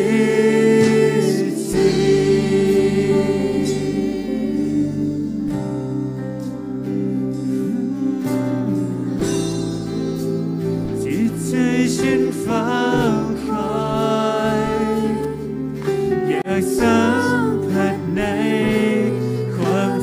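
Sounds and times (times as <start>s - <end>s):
person singing: 0.0s - 5.8s, 6.9s - 9.5s, 10.9s - 20.0s
keyboard and band chords: 0.0s - 20.0s.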